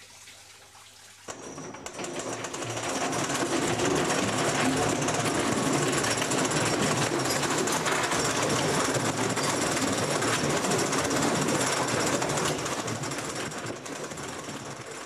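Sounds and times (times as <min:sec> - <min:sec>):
pneumatic drill hammering: 0:01.3 - 0:15.0.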